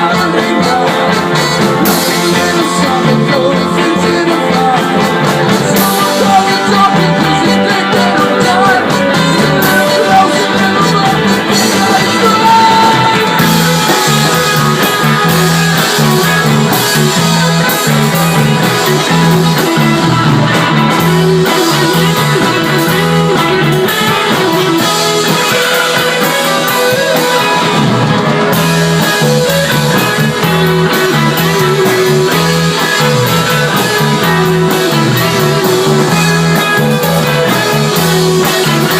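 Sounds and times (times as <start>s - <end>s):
drums: 0.0s - 38.9s
electric guitars: 0.0s - 38.9s
person singing: 0.0s - 38.9s.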